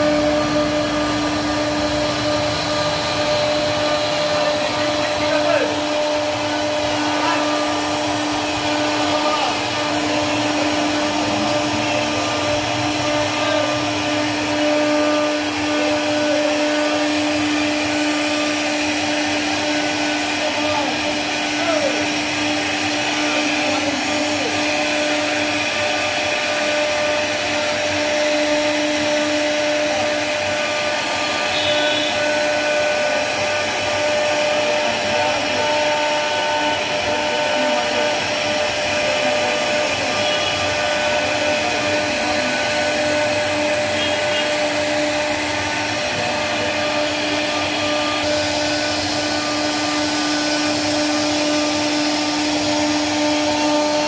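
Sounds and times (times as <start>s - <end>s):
router spindle whining: 0.0s - 54.0s.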